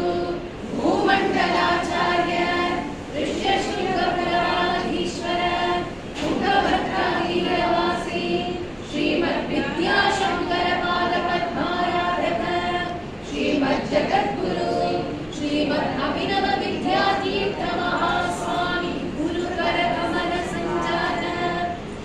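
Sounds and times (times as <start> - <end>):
woman singing unaccompanied: 0.0 - 22.0.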